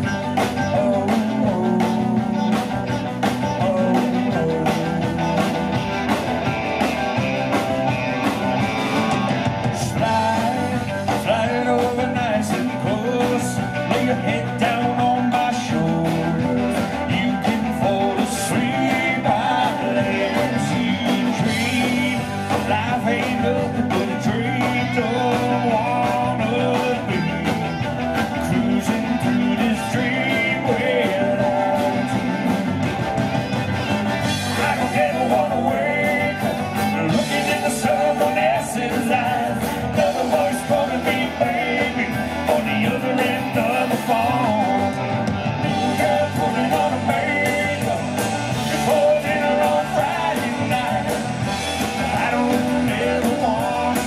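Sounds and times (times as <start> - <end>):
live country-rock band: 0.0 - 54.0
person singing: 0.0 - 54.0.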